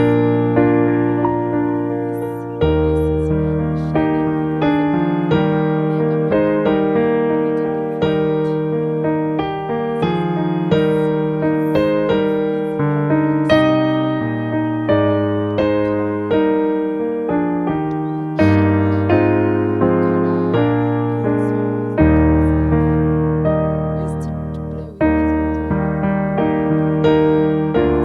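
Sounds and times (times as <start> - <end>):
gentle piano piece: 0.0 - 28.0.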